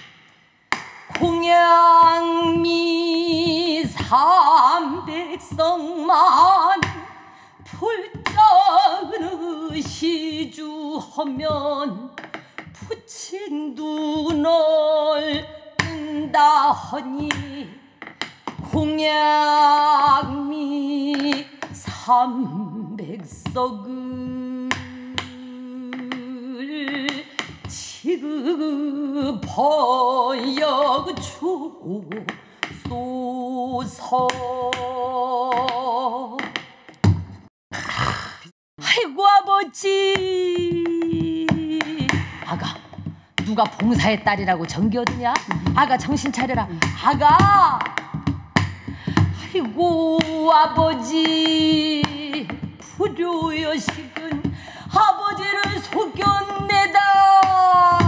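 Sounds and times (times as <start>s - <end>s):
woman singing with vibrato: 1.1s - 36.7s, 38.8s - 58.0s.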